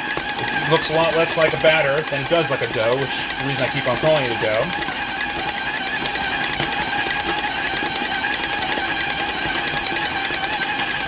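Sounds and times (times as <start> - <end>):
fast even ticking: 0.0 - 11.0
stand mixer motor humming: 0.0 - 11.0.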